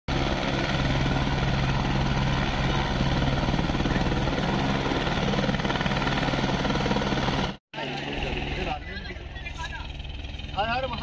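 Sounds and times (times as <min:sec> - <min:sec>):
helicopter engine and rotor: 0:00.1 - 0:11.0.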